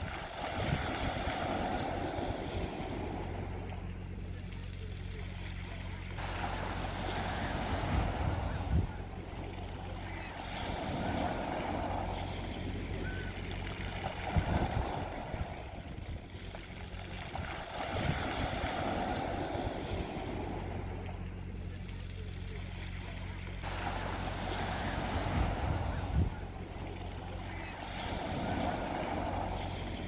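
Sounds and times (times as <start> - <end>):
steady low hum: 0.0 - 30.0
waves breaking on pebble beach: 0.0 - 30.0.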